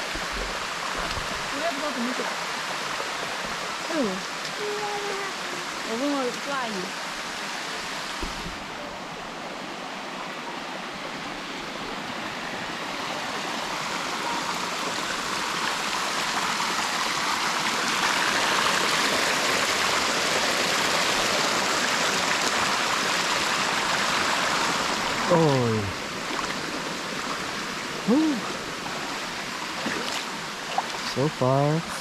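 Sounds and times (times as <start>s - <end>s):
waterfall rushing over rocks: 0.0s - 32.0s.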